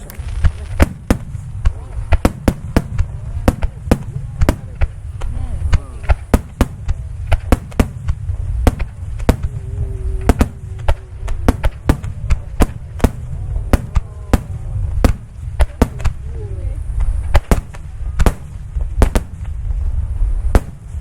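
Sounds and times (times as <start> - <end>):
firework bursts: 0.0 - 21.0
low rumble: 0.0 - 21.0.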